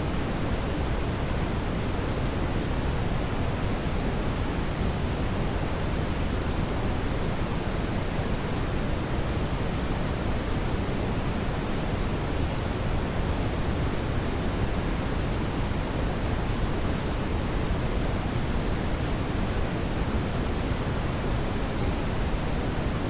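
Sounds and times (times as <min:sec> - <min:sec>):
steady brown noise: 0:00.0 - 0:23.0.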